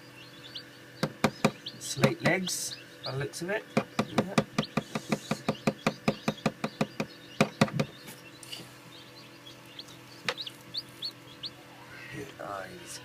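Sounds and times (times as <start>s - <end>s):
chick peeping: 0.0s - 13.0s.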